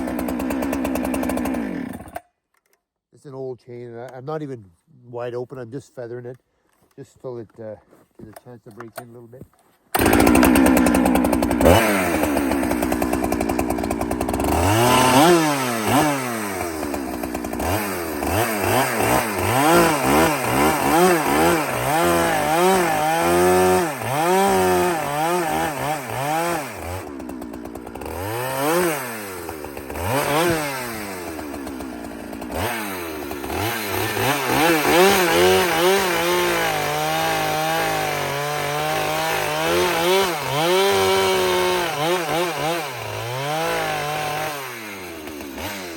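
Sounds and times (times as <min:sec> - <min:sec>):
chainsaw revving: 0:00.0 - 0:02.2, 0:10.0 - 0:45.9.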